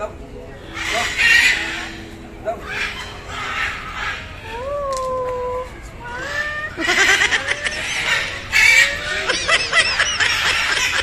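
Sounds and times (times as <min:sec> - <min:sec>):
crowd voices: 0:00.0 - 0:11.0
macaws squawking and shrieking: 0:00.6 - 0:11.0.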